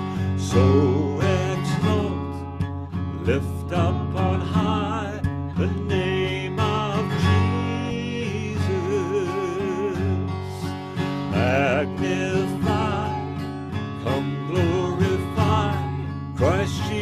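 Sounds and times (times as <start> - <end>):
person singing worship song: 0.0 - 2.4, 3.2 - 10.7, 11.3 - 17.0
strummed acoustic guitar: 0.0 - 17.0.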